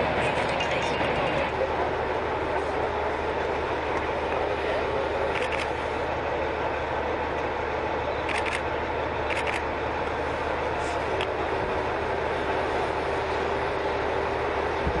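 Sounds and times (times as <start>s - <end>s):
fire engines rumbling: 0.0s - 15.0s.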